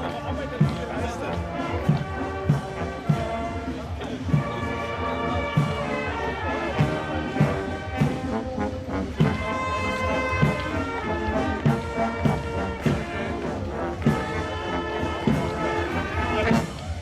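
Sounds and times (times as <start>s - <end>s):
brass band music: 0.0s - 17.0s
steady drum beat: 0.0s - 17.0s.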